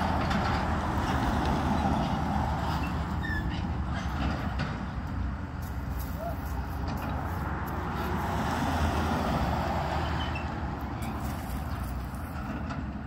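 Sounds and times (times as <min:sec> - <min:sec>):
diesel excavator rumbling: 0:00.0 - 0:13.0.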